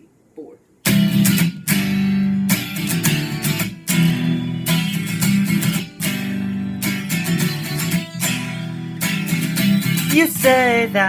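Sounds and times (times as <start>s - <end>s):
acoustic guitar strumming: 0.8s - 11.0s.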